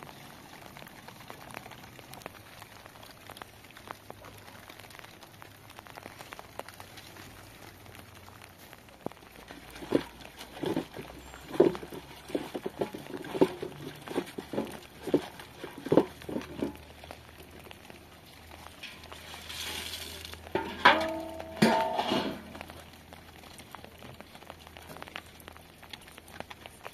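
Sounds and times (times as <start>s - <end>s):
water splashing in metal basin: 0.0s - 26.9s.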